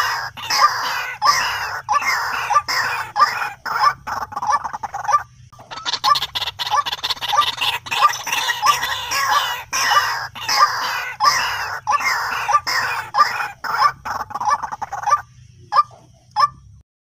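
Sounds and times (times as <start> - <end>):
bird harsh repeated calls: 0.0 - 16.6.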